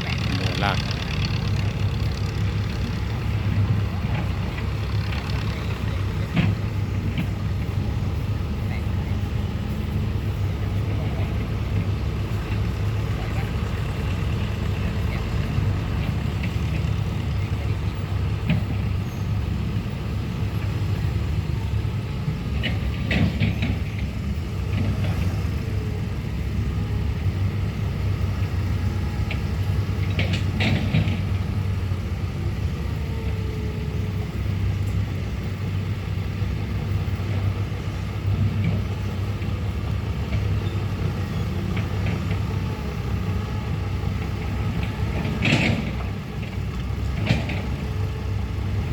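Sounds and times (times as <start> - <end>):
excavator diesel engine droning: 0.0 - 48.9.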